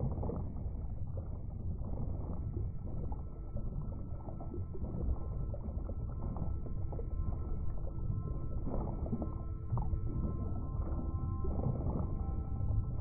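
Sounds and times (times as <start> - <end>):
underwater rumble and wash: 0.0 - 13.0.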